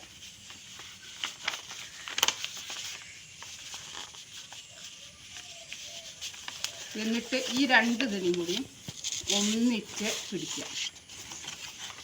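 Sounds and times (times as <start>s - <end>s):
paper folding and crinkling: 0.0s - 12.0s.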